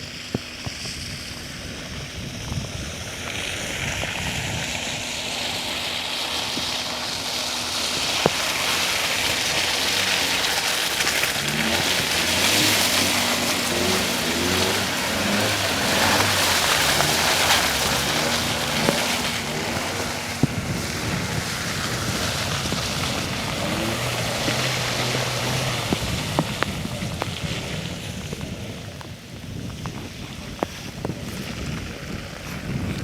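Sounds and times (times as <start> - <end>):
car engine revving: 0.0 - 33.0
tyres splashing through mud: 0.0 - 33.0
wind buffeting microphone: 0.0 - 33.0.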